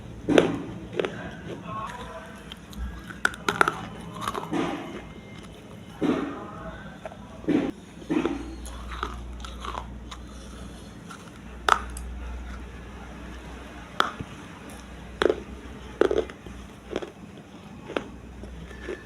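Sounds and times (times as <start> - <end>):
crunching on hard clay pieces: 0.0 - 12.8, 13.9 - 19.0.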